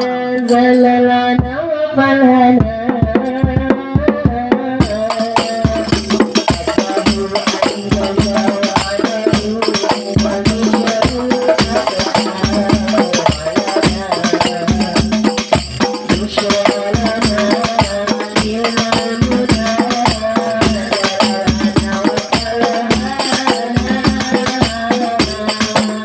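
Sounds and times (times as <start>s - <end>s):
jingling percussion: 0.0s - 1.0s, 3.1s - 3.6s, 4.8s - 26.0s
instrumental melody line: 4.8s - 26.0s.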